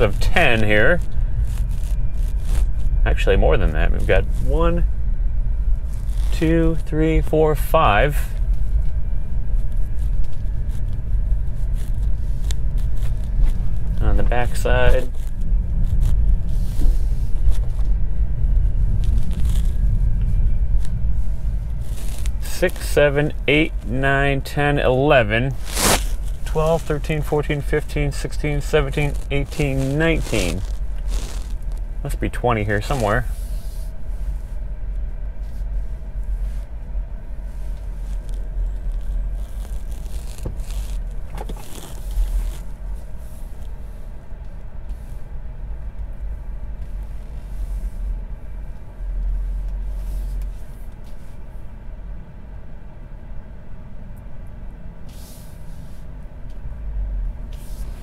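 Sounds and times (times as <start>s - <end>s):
car cabin low rumble: 0.0s - 58.0s
tyre and road noise: 0.0s - 58.0s.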